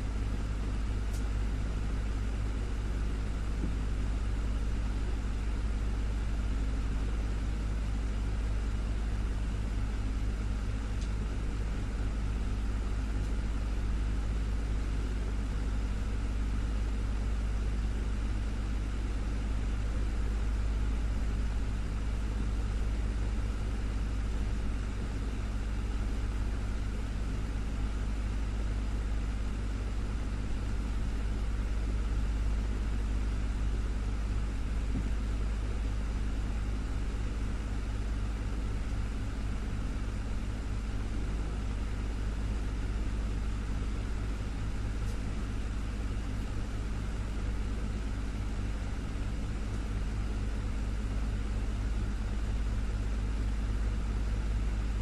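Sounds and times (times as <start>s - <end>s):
desktop fan running: 0.0s - 55.0s.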